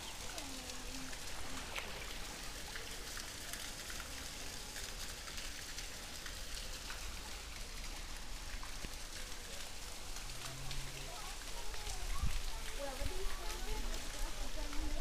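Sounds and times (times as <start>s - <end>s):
pool water splashing and trickling: 0.0s - 15.0s.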